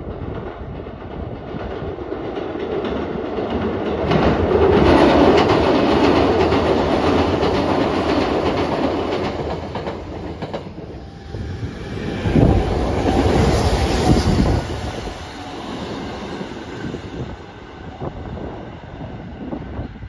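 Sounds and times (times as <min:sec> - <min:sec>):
train rumbling over bridge: 0:00.0 - 0:20.0
wheels clacking over rail joints: 0:00.1 - 0:18.0.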